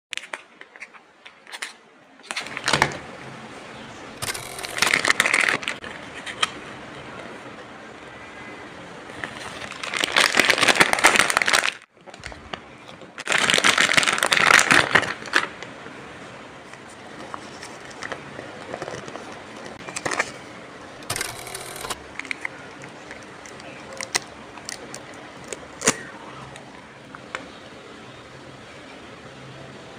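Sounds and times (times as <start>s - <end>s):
low background hum: 0.1s - 29.9s.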